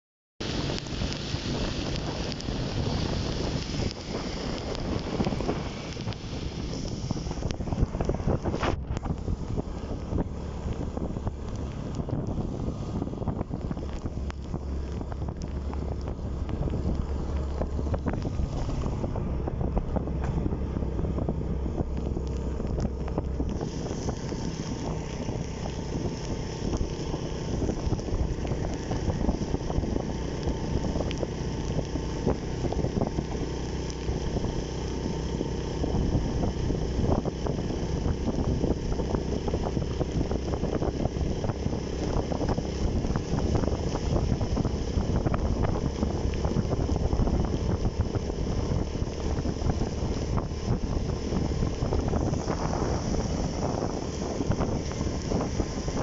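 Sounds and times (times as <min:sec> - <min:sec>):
tyre noise on wet road: 0:00.4 - 0:56.0
wind buffeting microphone: 0:00.4 - 0:56.0
motorcycle engine running: 0:00.5 - 0:56.0.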